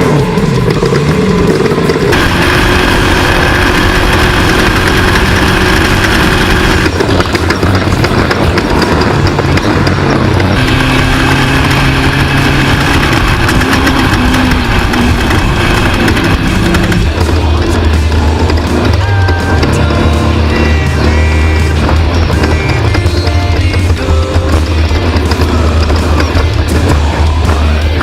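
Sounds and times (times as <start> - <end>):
buggy engine running: 0.0 - 28.0.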